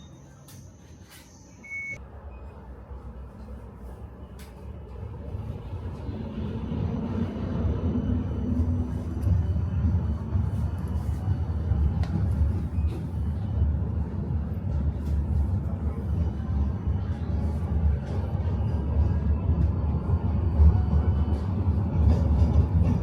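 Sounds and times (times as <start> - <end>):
tram motor hum: 0.0 - 23.0
tram wheels and motors rumbling: 0.0 - 23.0.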